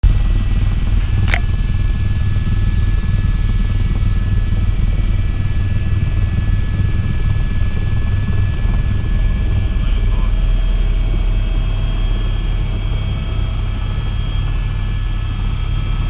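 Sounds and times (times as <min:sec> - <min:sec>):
aircraft engine droning: 0:00.0 - 0:16.0.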